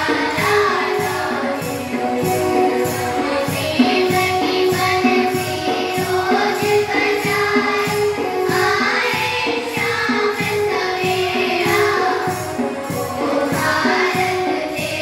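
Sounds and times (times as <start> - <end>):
girls singing in unison: 0.0 - 15.0
steady percussion beat: 0.0 - 15.0.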